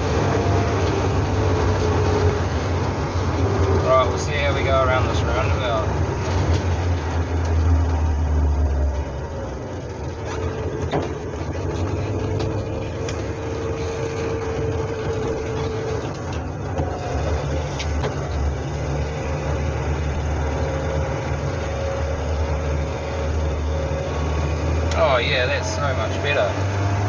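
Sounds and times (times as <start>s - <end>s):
car engine running: 0.0s - 27.0s
road and tyre noise: 0.0s - 27.0s.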